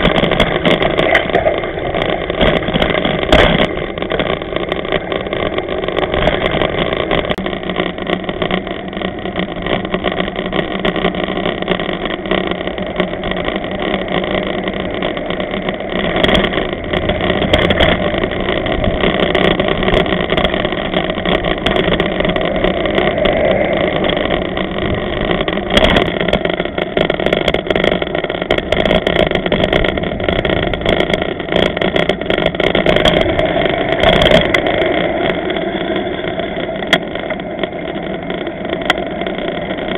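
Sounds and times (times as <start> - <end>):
fixed tones: 0.0 - 39.9.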